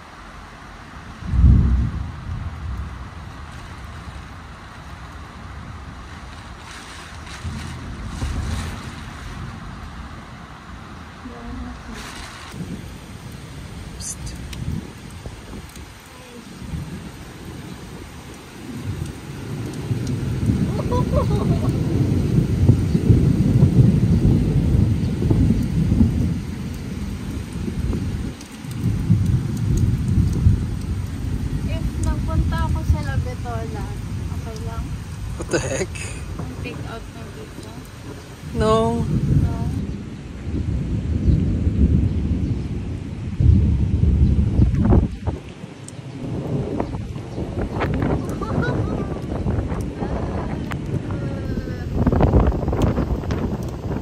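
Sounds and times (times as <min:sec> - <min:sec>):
deep rumbling: 0:00.0 - 0:54.0
torrential rain pouring: 0:00.0 - 0:54.0
wind buffeting microphone: 0:00.0 - 0:54.0.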